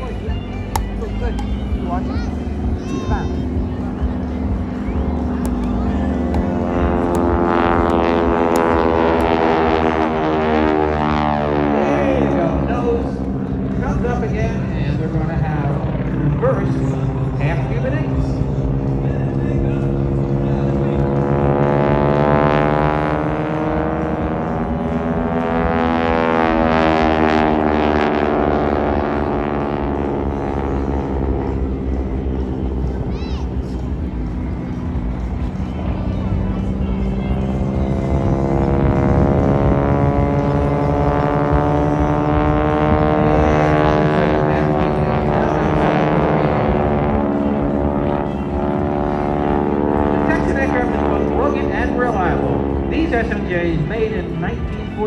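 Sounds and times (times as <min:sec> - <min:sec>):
propeller aircraft engines droning: 0:00.0 - 0:55.0.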